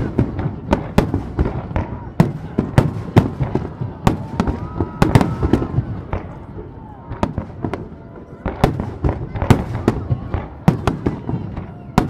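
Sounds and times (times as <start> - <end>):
fireworks bursting with bangs: 0.0 - 12.0.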